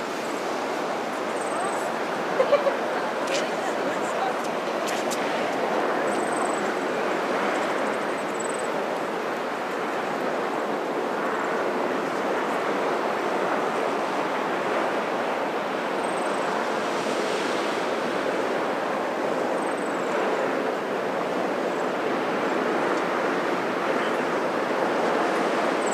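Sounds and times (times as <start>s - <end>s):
ocean surf against rocks: 0.0s - 25.9s.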